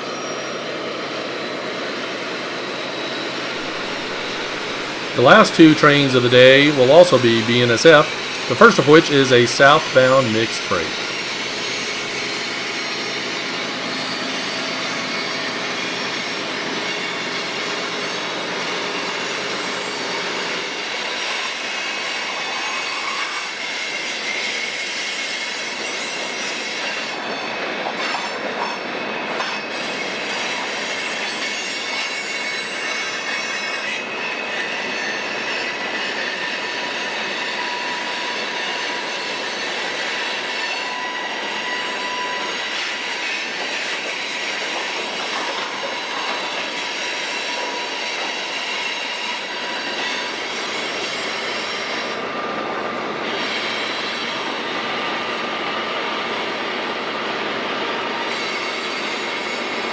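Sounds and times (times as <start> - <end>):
high wheel squeals: 0.0 - 56.3
train wheels rushing on rail: 0.0 - 59.9.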